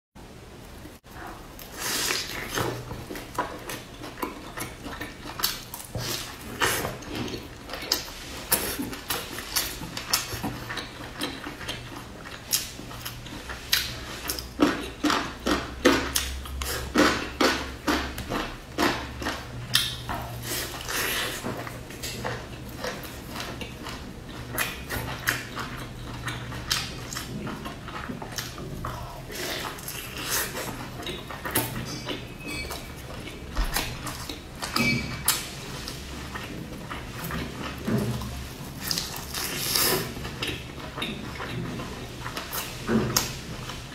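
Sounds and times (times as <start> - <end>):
crunchy chewing: 1.2 - 43.9.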